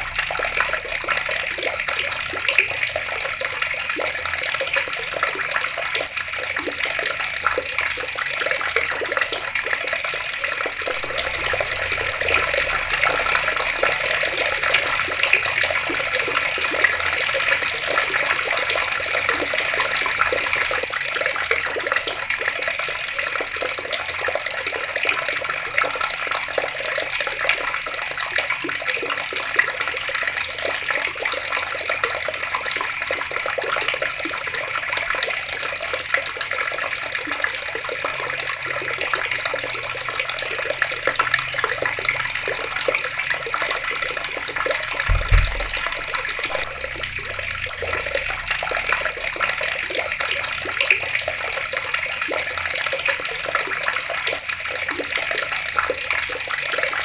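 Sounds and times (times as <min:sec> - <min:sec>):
water flowing from a tap: 0:00.0 - 0:57.0.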